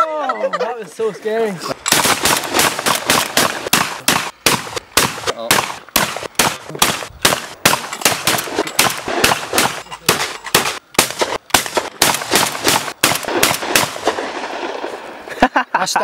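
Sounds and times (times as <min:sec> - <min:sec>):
shotgun shots: 0:01.8 - 0:15.1.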